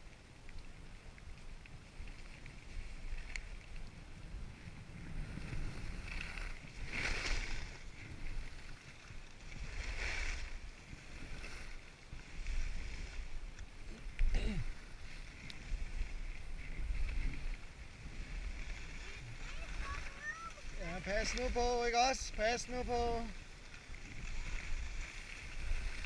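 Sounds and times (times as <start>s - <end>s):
low wind rumble on microphone: 0.0s - 26.0s.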